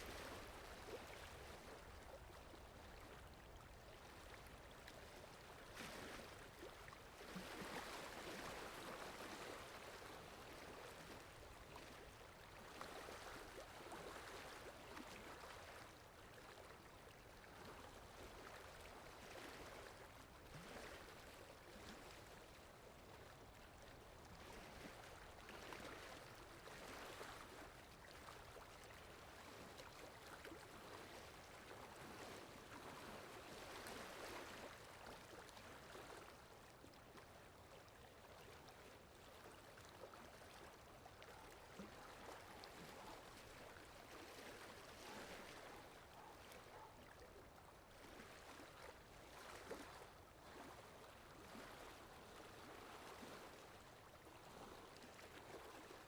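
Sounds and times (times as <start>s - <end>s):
soft wash of water: 0.0s - 56.0s.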